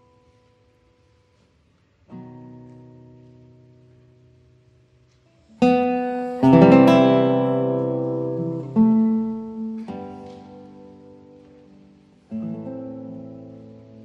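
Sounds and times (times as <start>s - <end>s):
acoustic guitar strumming: 2.0s - 14.0s.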